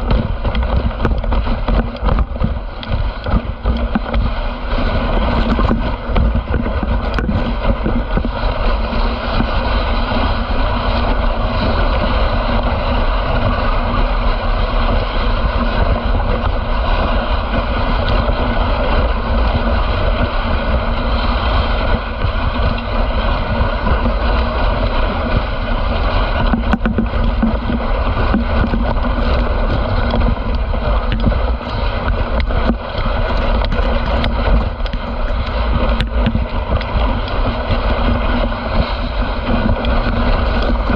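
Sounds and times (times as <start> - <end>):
sled runners scraping on snow: 0.0 - 40.9
wind on microphone: 0.0 - 40.9.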